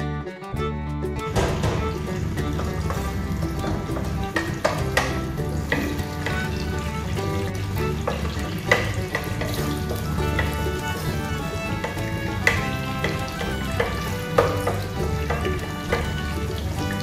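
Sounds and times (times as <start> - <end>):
wooden spatula knocking pot: 1.3 - 17.0.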